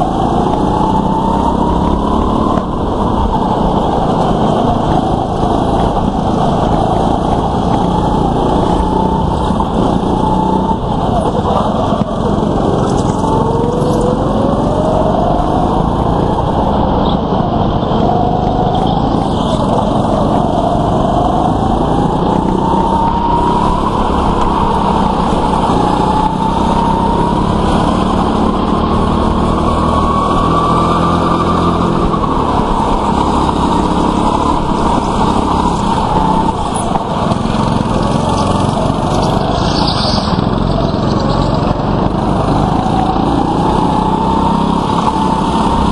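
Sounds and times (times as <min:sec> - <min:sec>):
go-kart engines running hard: 0:00.0 - 0:45.9.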